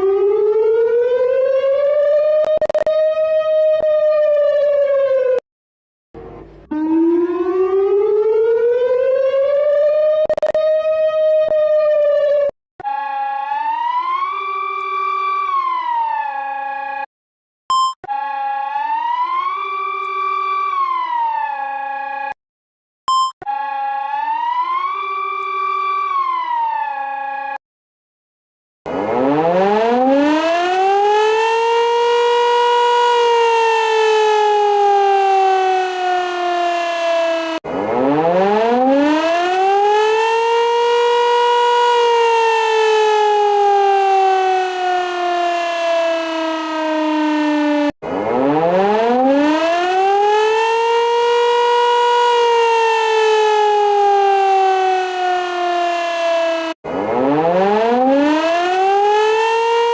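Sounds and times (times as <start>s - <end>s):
warning siren winding up and down: 0.0s - 5.4s, 6.2s - 17.1s, 17.8s - 22.4s, 23.4s - 27.6s, 28.9s - 59.9s.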